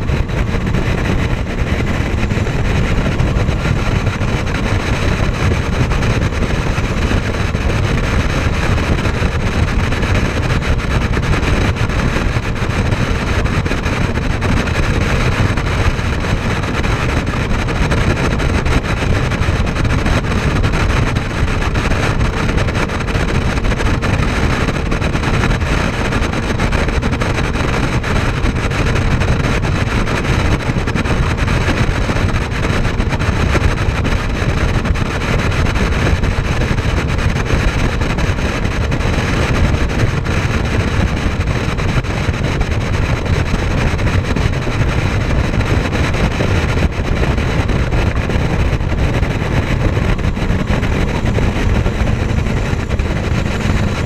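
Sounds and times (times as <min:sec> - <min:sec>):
motorboat engine rumble: 0:00.0 - 0:54.0
wind buffeting microphone: 0:00.0 - 0:54.0.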